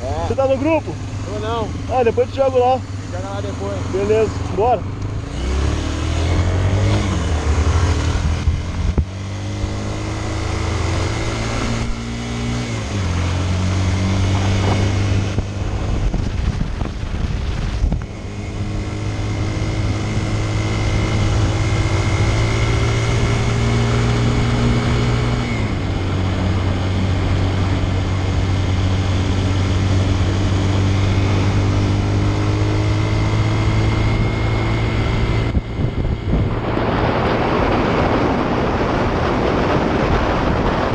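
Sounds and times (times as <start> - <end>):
motorcycle engine running: 0.0 - 40.9
wind on microphone: 5.0 - 40.9.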